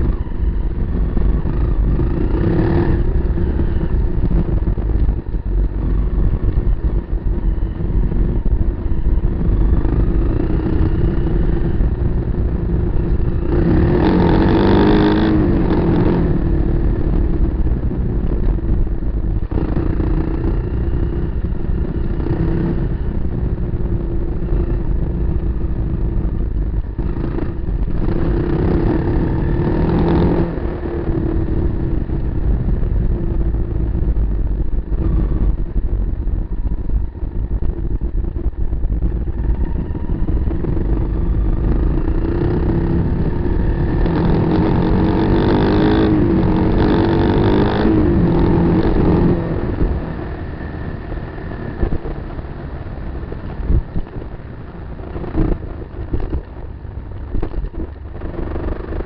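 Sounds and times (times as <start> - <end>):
motorcycle engine running and revving: 0.0 - 59.0.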